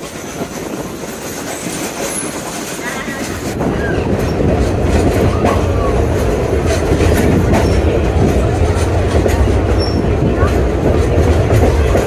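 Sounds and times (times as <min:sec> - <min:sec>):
train rumbling along track: 0:00.0 - 0:12.0
wheels clicking over rail joints: 0:00.0 - 0:12.0.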